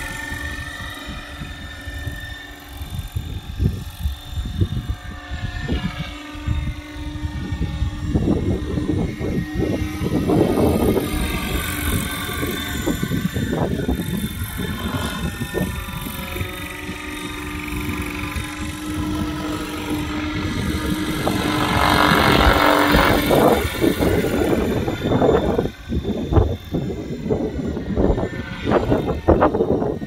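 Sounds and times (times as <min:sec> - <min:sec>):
helicopter flying past: 0:00.0 - 0:30.0.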